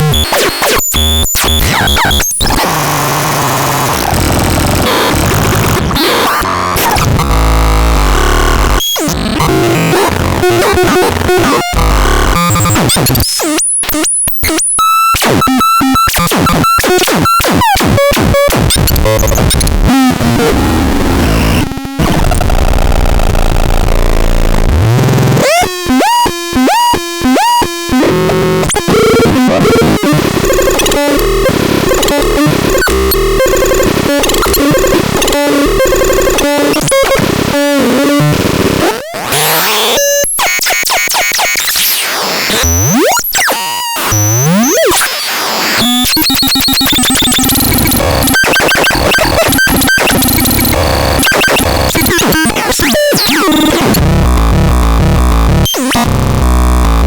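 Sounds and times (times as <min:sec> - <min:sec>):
harsh electronic static: 0:00.0 - 0:25.6, 0:26.5 - 0:57.0.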